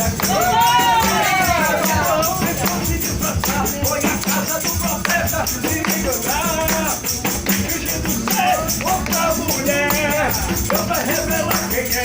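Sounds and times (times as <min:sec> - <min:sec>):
hand percussion rattling: 0:00.0 - 0:12.0
person singing: 0:00.0 - 0:12.0
worship band music: 0:00.0 - 0:12.0.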